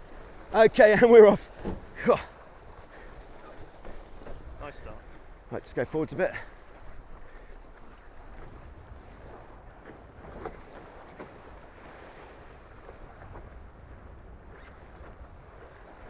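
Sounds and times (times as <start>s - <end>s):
water rushing past hulls: 0.0s - 16.0s
wind buffeting microphone: 0.0s - 16.0s.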